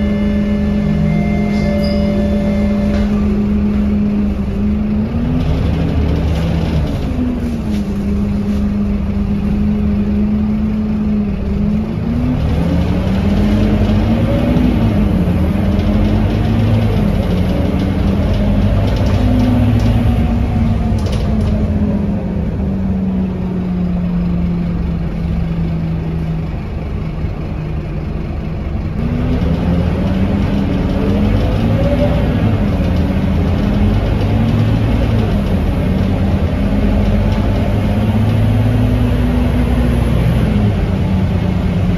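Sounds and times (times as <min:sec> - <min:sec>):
bus diesel engine running: 0:00.0 - 0:41.9.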